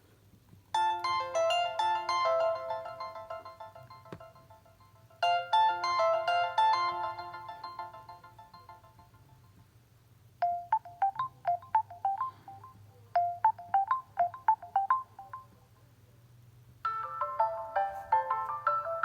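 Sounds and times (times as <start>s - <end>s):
fuller ringtone: 0.8s - 9.2s, 10.4s - 15.6s, 16.9s - 19.0s
bright ringtone melody: 0.8s - 9.5s, 10.4s - 15.6s, 16.8s - 19.0s.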